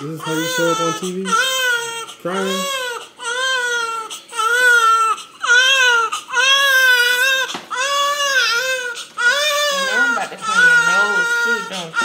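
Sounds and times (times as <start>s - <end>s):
newborn baby crying: 0.0s - 12.0s.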